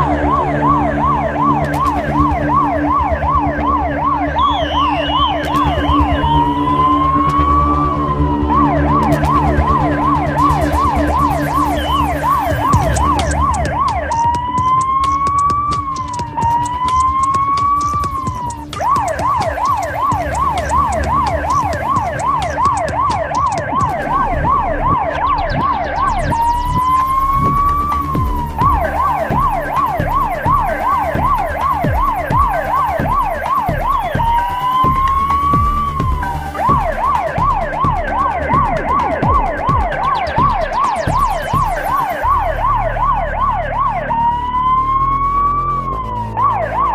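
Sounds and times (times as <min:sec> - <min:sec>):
police siren: 0:00.0 - 0:46.9.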